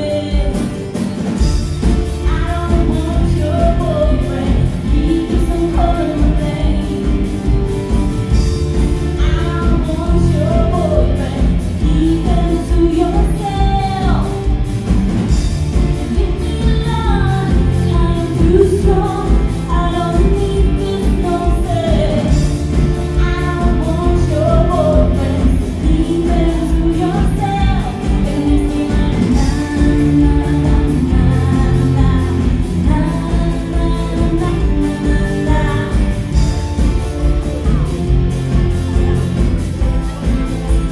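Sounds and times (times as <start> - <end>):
woman singing: 0.0 - 37.0
bass guitar: 0.0 - 40.9
drum beat with cymbals: 0.0 - 40.9
electric guitar: 0.0 - 40.9.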